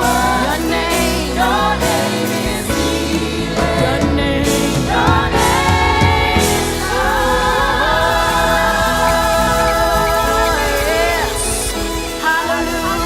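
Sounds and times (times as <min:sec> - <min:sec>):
backing vocals: 0:00.0 - 0:13.0
bass: 0:00.0 - 0:13.0
keyboard: 0:00.0 - 0:13.0
person singing: 0:00.0 - 0:13.0.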